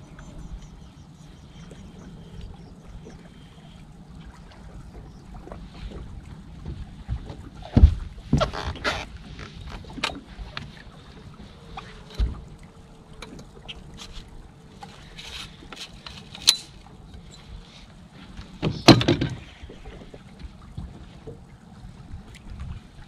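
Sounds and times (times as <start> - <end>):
water lapping against boat hull: 0.0 - 23.0.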